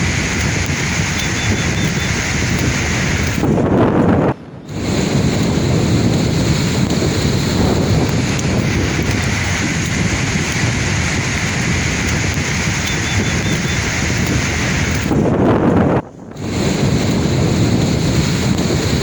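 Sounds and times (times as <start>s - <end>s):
sea waves breaking on shore: 0.0s - 19.0s
wind buffeting microphone: 0.0s - 19.0s.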